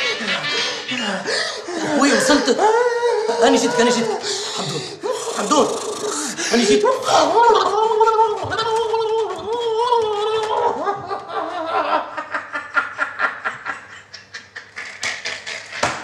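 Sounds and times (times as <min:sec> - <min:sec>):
man laughing hard: 0:00.0 - 0:16.0.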